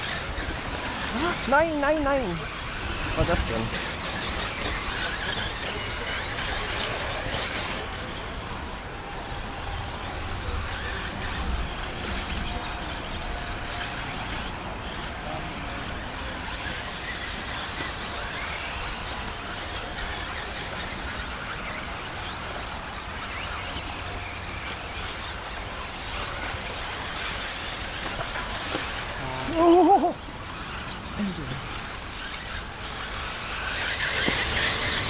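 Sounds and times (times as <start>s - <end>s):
electric motors whining: 0.0s - 35.0s.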